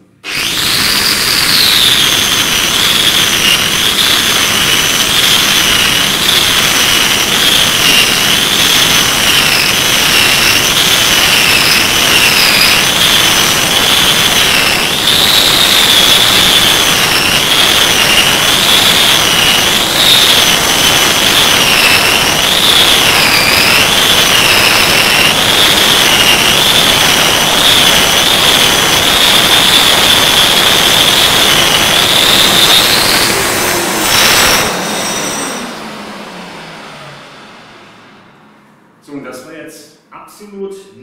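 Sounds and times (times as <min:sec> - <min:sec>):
concrete milling machine grinding: 0:00.0 - 0:38.3
machine winding down: 0:00.0 - 0:39.6.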